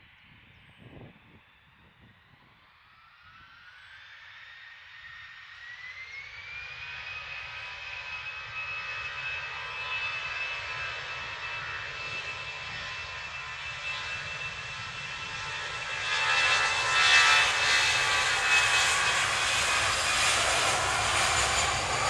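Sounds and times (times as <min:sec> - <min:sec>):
jet engine roar: 0:00.1 - 0:22.0
jet engines whining: 0:02.7 - 0:22.0.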